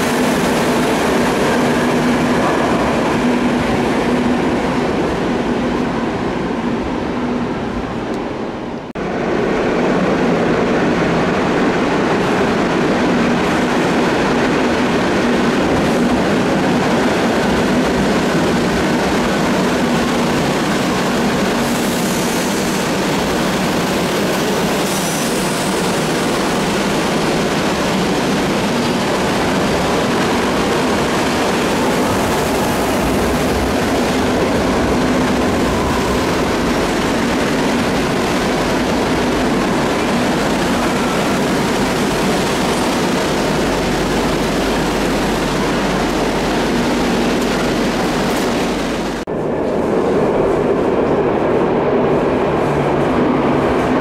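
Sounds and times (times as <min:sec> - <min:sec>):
train wheels and motors rumbling: 0:00.0 - 0:54.0.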